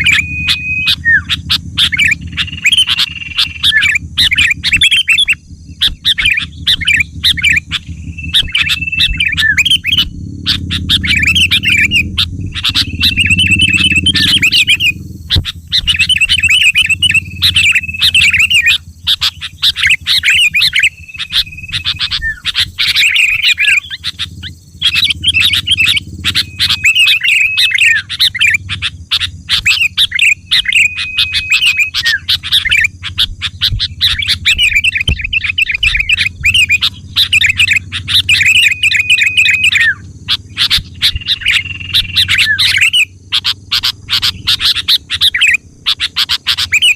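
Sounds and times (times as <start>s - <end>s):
bird chattering chirps and whistles: 0.0s - 46.9s
low background rumble: 0.0s - 46.9s.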